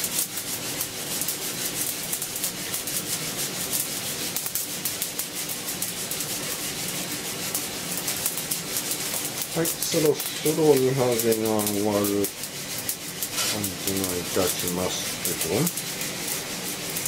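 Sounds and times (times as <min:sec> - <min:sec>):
coffee beans rattling in roaster: 0:00.0 - 0:17.0.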